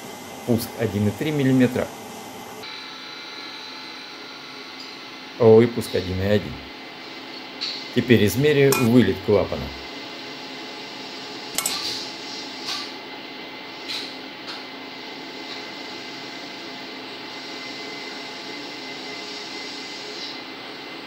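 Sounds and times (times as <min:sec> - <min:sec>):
workshop hum: 0:00.0 - 0:21.0.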